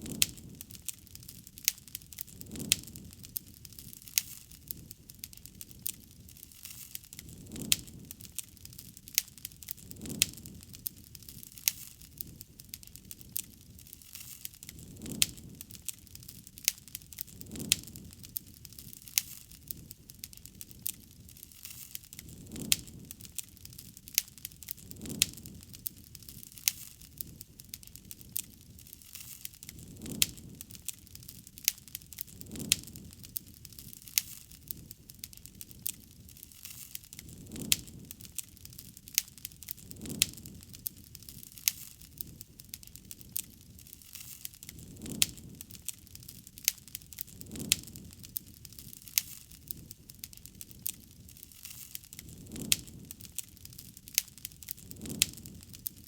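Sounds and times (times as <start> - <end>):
campfire crackling and popping: 0.0 - 56.0
flame swells: 0.0 - 56.0.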